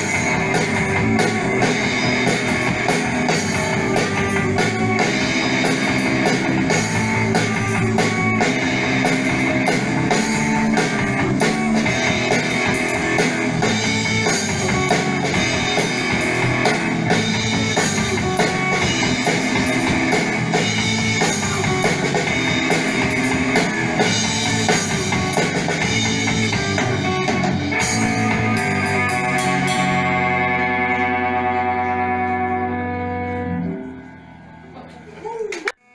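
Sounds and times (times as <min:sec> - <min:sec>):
rock band playing live: 0:00.0 - 0:35.1.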